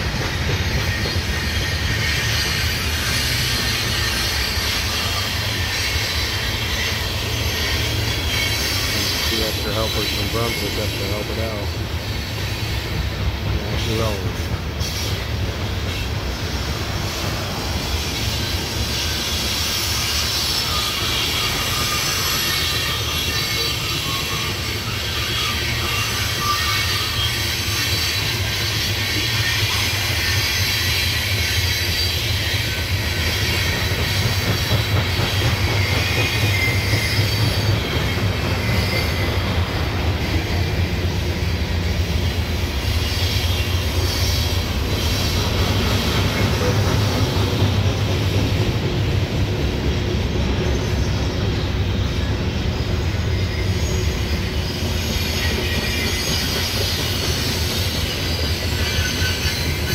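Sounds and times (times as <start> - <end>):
train wheels rumbling on rail: 0.0 - 59.9
high-pitched wheel squeal: 0.5 - 13.0, 17.8 - 41.5, 42.1 - 47.7, 50.7 - 59.9.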